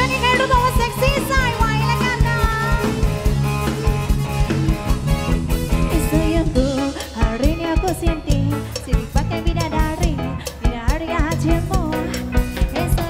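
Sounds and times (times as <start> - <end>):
bass: 0.0 - 13.0
drum kit beat: 0.0 - 13.0
guitar: 0.0 - 13.0.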